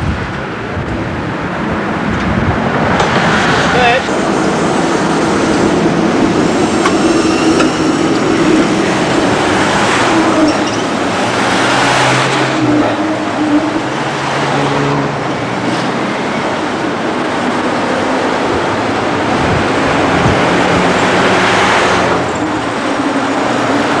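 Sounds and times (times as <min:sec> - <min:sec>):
street traffic: 0:00.0 - 0:24.0
tram wheels rumbling: 0:00.0 - 0:24.0.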